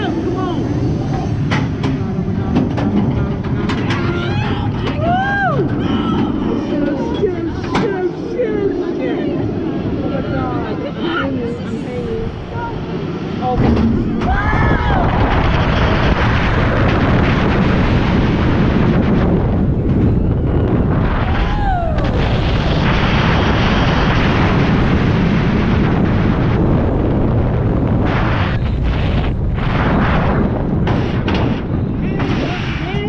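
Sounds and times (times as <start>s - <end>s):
roller coaster rumble: 0.0s - 33.0s
wind buffeting microphone: 0.0s - 33.0s.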